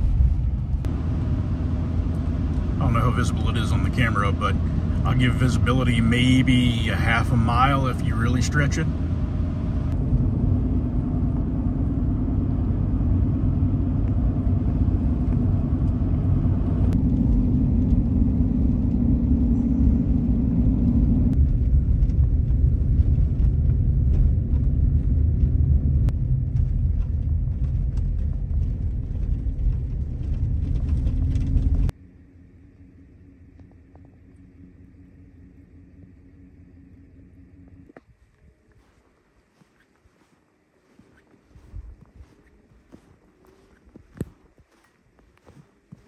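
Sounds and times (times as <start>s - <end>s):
truck engine and road noise: 0.0s - 46.0s.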